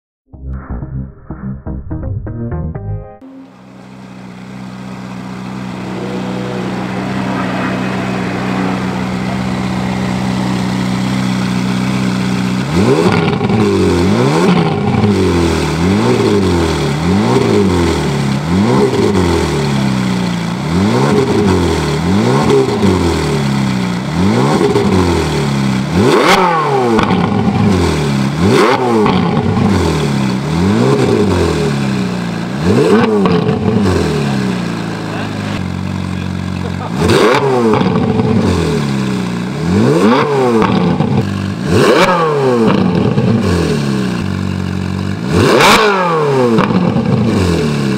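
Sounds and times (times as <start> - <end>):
sports car engine idling and revving: 3.2 - 47.9.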